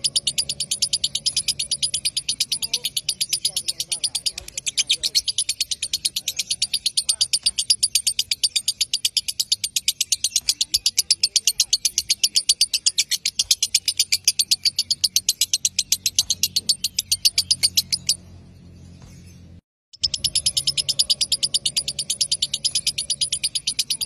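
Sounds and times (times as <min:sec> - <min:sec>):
lovebird high-pitched chatter: 0:00.0 - 0:24.0.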